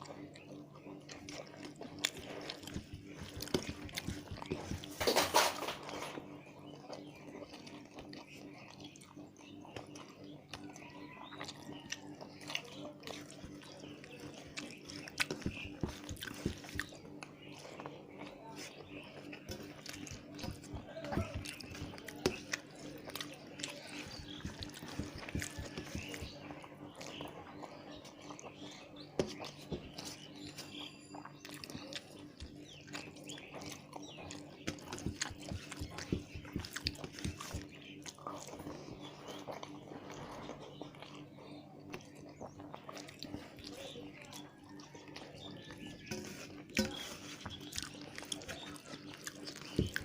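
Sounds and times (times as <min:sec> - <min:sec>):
wet chewing sounds: 0:00.0 - 0:50.0.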